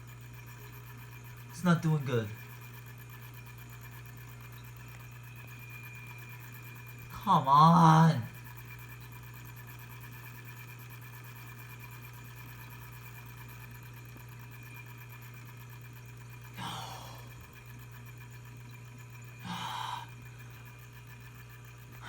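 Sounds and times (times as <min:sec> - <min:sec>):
refrigerator fan humming: 0:00.0 - 0:22.0.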